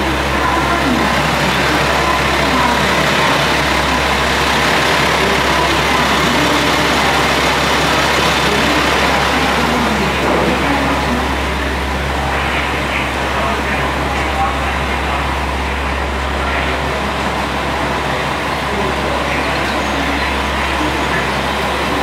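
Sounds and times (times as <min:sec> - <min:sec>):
faint voices: 0:00.0 - 0:22.0
road traffic din: 0:00.0 - 0:22.0
vehicle engines idling: 0:00.0 - 0:22.0.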